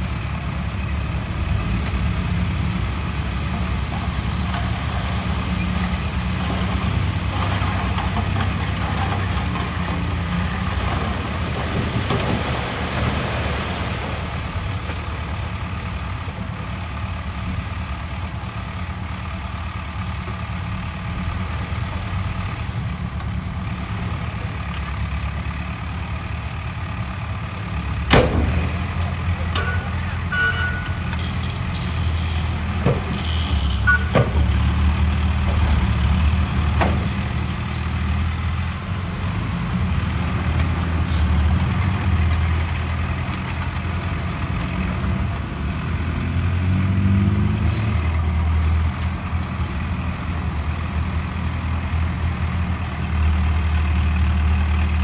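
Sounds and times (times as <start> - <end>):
diesel machinery rumbling: 0.0 - 55.0.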